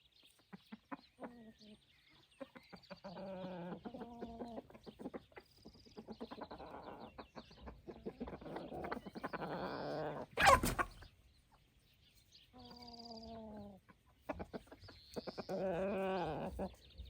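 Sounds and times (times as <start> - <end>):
chickens clucking: 0.2 - 17.0.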